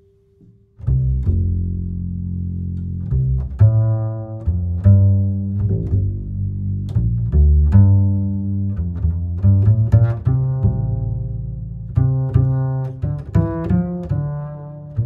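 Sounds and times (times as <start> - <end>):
deep bass line music: 0.8 - 15.0.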